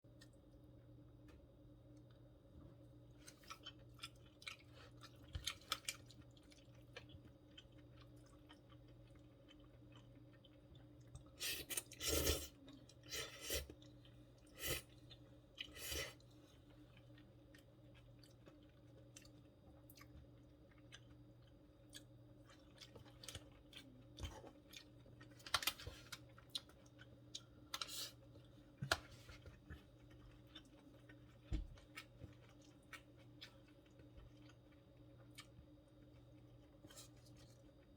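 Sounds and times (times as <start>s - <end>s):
faint steady hum: 0.0s - 37.9s
chewing and wet mouth sounds: 1.9s - 37.9s.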